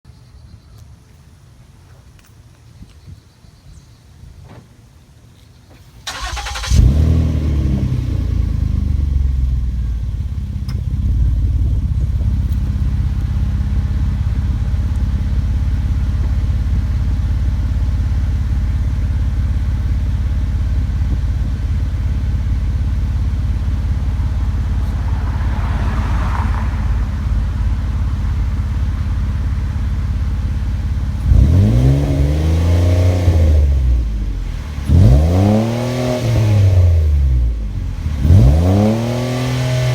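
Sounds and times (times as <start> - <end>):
car engine idling and revving: 6.0 - 39.9.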